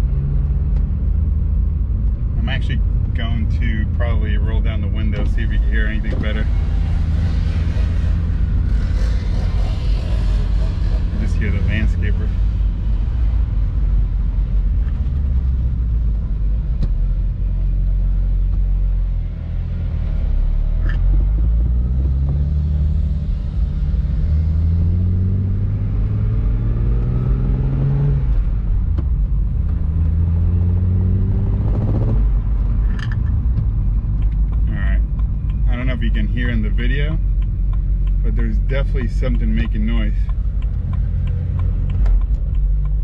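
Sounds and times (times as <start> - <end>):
car engine accelerating: 0.0 - 43.0
low road rumble: 0.0 - 43.0.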